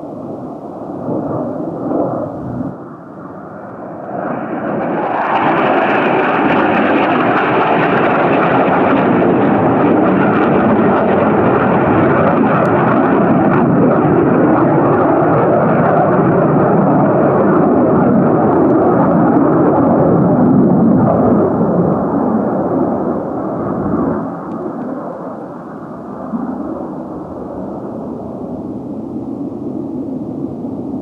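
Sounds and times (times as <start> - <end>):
fighter jet roar: 0.0 - 31.0.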